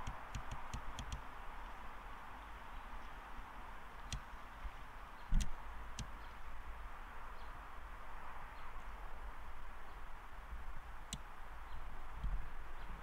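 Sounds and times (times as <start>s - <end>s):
outdoor background hiss: 0.0s - 13.0s
wind rumble on microphone: 0.0s - 13.0s.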